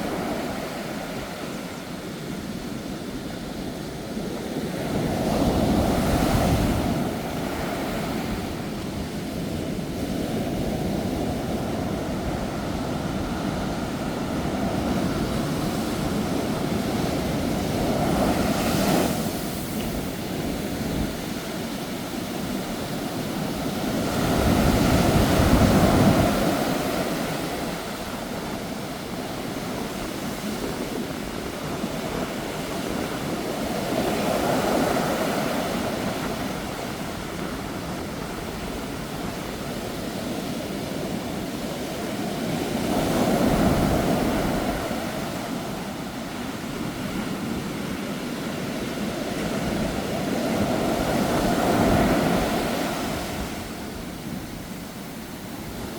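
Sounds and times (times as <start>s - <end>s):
sea waves breaking: 0.0s - 55.9s
strong wind: 0.0s - 55.9s.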